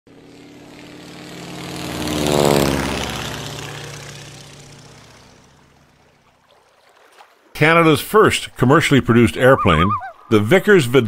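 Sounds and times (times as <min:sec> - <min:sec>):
propeller airplane flying past: 0:00.1 - 0:10.8.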